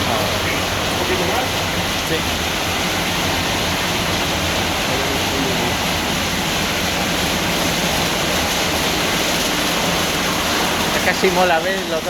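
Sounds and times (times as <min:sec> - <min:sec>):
car wash brushes and water spray: 0:00.0 - 0:12.0.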